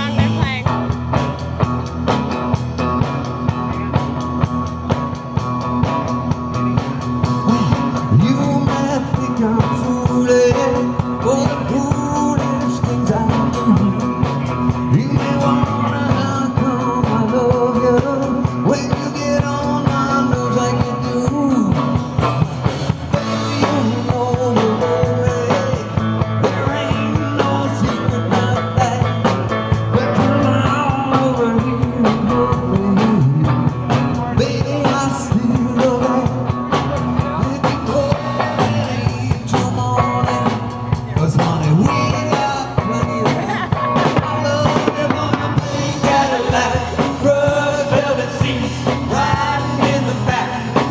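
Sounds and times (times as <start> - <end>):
bass guitar: 0.0 - 50.9
drum kit: 0.0 - 50.9
electric guitars: 0.0 - 50.9
singer: 7.3 - 50.9.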